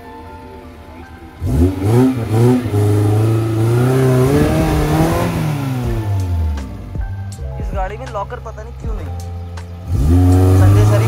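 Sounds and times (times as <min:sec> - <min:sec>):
off-road vehicle engine revving: 0:00.6 - 0:07.6, 0:08.2 - 0:11.0.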